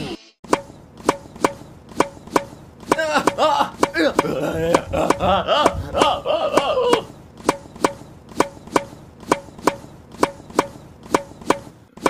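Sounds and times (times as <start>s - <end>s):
ping-pong ball clicks: 0.5s - 5.8s, 6.5s - 11.8s.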